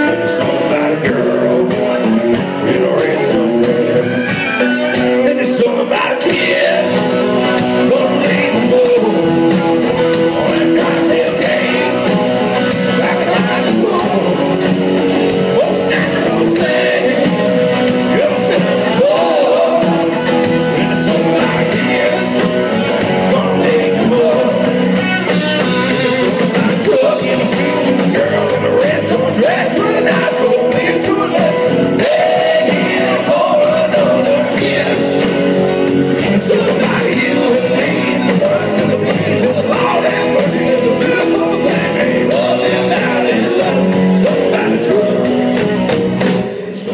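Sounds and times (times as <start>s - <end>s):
lead singer singing: 0.0s - 46.9s
live rock band playing: 0.0s - 46.9s.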